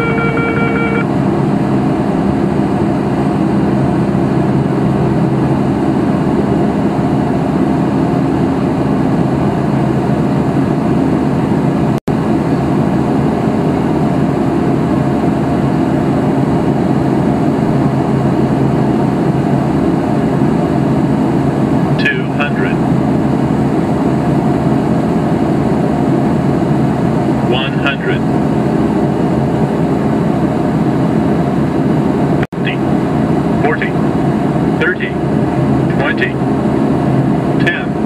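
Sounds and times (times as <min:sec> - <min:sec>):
aircraft engine drone in cockpit: 0:00.0 - 0:38.0
low hum tones: 0:00.0 - 0:38.0.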